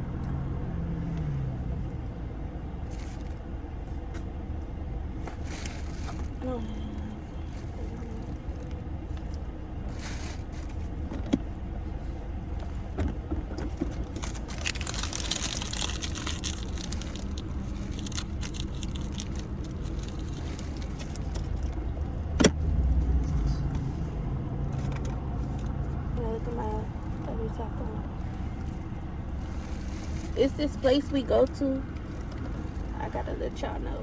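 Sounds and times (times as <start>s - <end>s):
car rumble from inside cabin: 0.0s - 34.0s.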